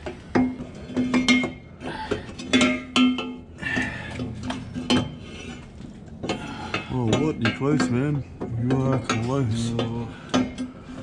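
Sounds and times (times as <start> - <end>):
metal pipes clanking: 0.0 - 11.0.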